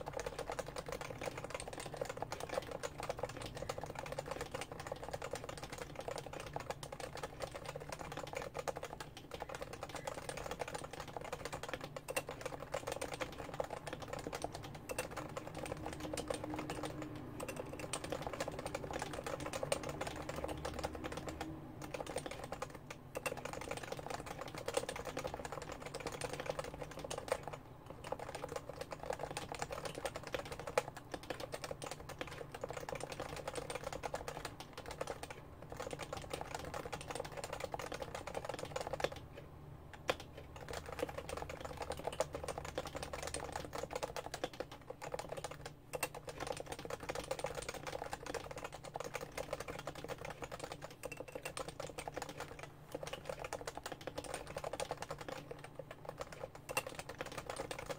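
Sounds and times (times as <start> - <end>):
fast typing on keyboard: 0.0 - 39.3, 40.0 - 57.9.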